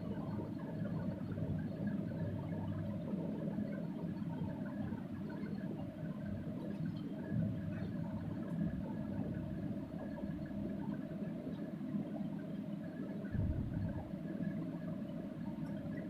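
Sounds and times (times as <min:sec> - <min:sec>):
low background rumble and hum: 0:00.0 - 0:16.0.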